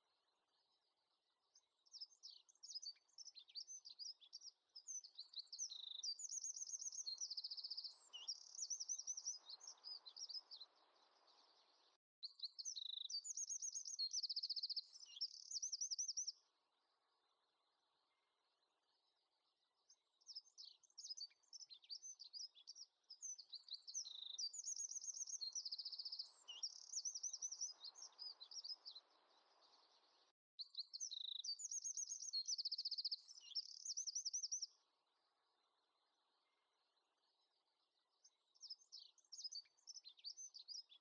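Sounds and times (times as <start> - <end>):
songbird chirping and trilling: 0.0 - 41.0.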